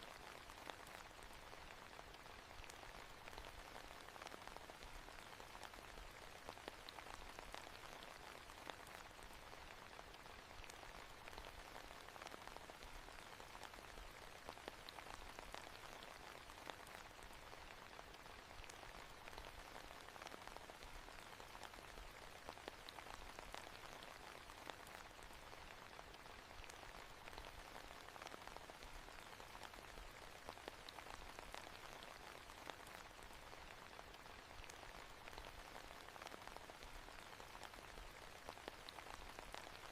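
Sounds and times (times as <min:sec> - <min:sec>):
raindrop ticks: 0:00.0 - 0:39.9
soft rain hiss: 0:00.0 - 0:39.9.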